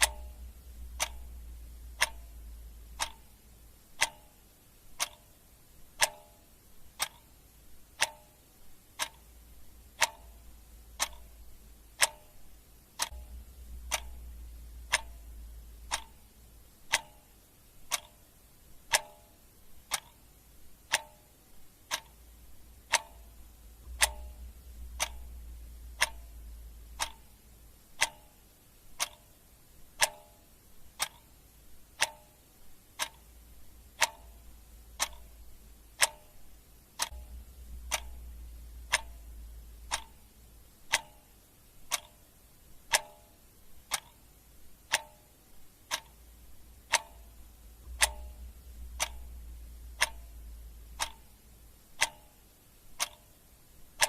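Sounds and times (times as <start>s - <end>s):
clock ticking: 0.0s - 54.0s
faint low hum: 0.0s - 54.0s.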